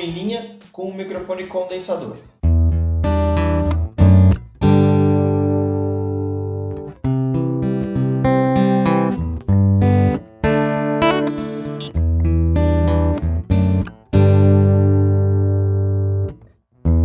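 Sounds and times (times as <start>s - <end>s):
acoustic guitar chords: 2.3s - 17.0s.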